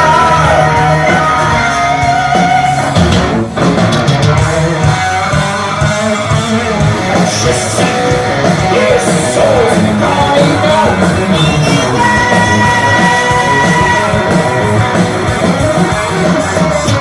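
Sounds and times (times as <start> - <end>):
guitar line bending in pitch: 0.0 - 17.0
heavy metal band playing live: 0.0 - 17.0.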